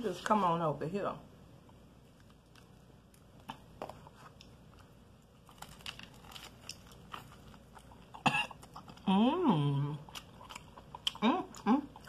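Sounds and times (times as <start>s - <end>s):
crunchy chewing of fried chicken: 2.1s - 12.0s.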